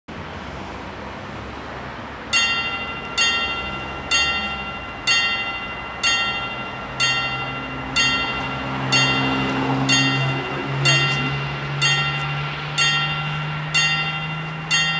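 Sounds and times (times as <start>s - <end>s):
level-crossing warning bells: 2.0s - 14.9s.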